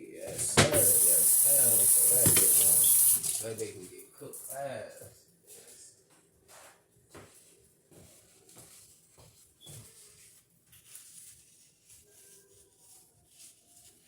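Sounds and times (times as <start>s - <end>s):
soft kitchen taps and rustles: 0.2s - 3.6s, 5.0s - 14.0s.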